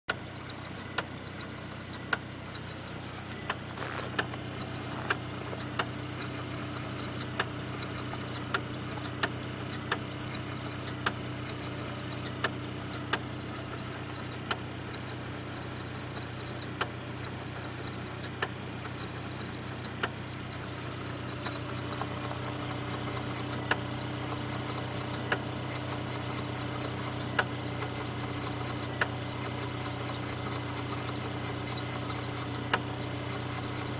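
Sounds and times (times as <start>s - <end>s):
car engine idling: 0.1s - 33.9s
drive belt squealing: 0.1s - 33.9s.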